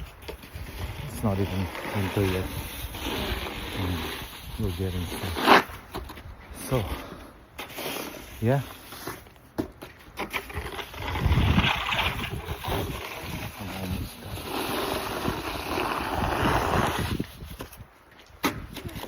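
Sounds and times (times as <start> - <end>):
snow shovel scraping: 0.0 - 9.3, 10.1 - 17.8.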